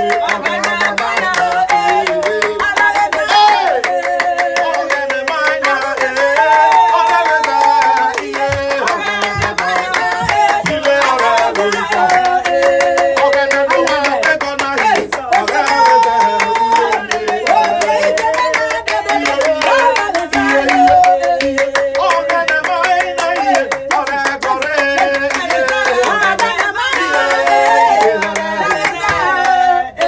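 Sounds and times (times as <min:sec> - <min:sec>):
fast percussive beat: 0:00.0 - 0:29.7
hand clapping: 0:00.0 - 0:30.0
people singing: 0:00.0 - 0:30.0.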